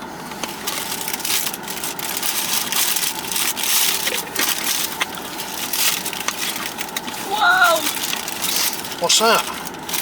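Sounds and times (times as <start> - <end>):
paper wrapper crinkling: 0.4 - 10.0.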